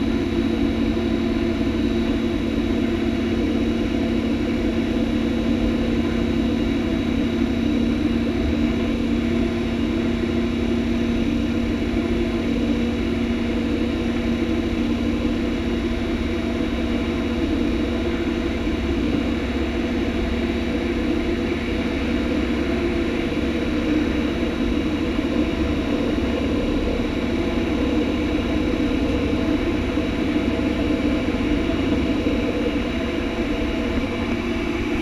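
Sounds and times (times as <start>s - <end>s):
train diesel engine drone: 0.0s - 35.0s.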